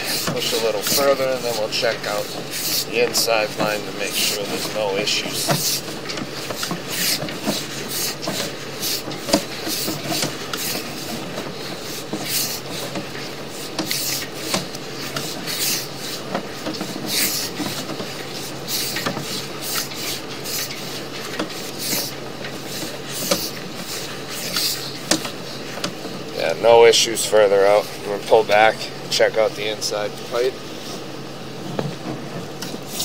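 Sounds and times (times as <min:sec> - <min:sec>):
cable scraping in a pipe: 0:00.0 - 0:26.2, 0:32.6 - 0:33.0
steady low hum: 0:00.0 - 0:33.0.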